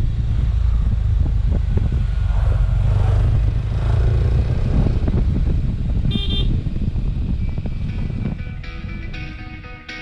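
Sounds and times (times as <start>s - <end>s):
wind rumble on microphone: 0.0s - 9.8s.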